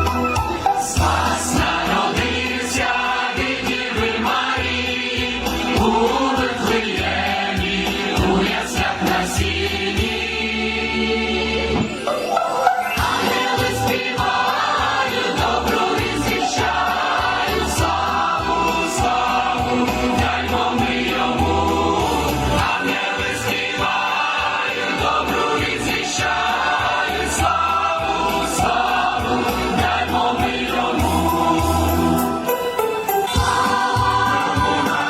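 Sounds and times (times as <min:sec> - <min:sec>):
instrumental accompaniment: 0:00.0 - 0:35.0
choir singing religious song: 0:00.8 - 0:12.0, 0:12.9 - 0:35.0.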